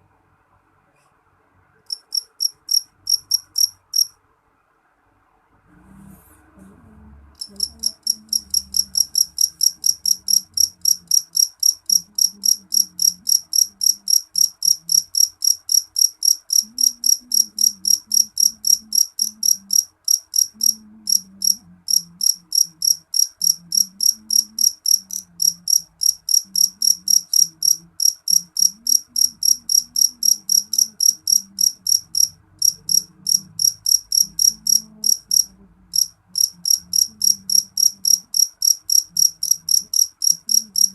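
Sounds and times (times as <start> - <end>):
cricket chirping: 1.8 - 4.2, 7.4 - 40.9.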